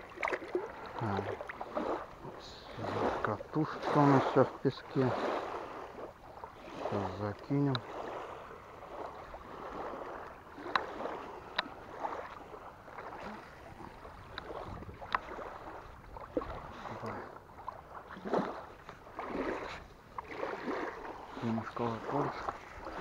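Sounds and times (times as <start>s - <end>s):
small waves lapping on shore: 0.0s - 23.0s.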